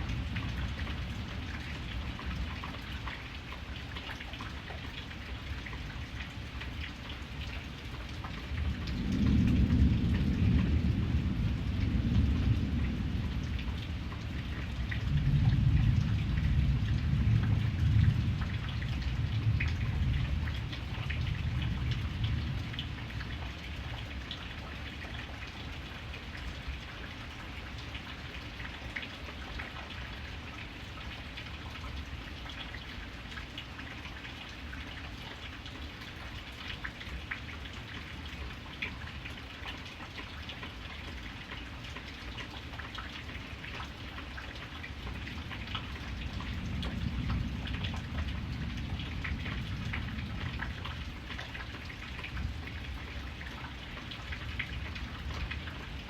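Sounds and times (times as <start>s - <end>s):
rain on a surface: 0.0s - 56.0s
raindrops ticking: 0.1s - 56.0s.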